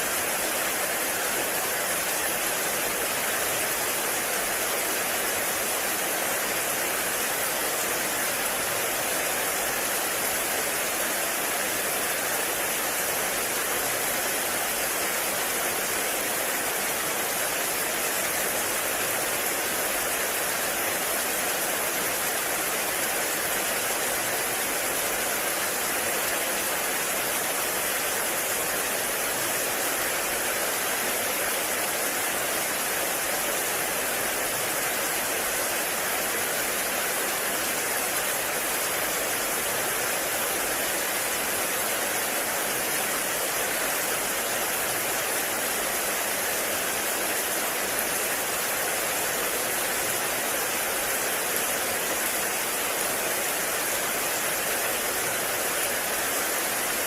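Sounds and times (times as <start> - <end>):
heavy rain on a forest: 0.0 - 57.0.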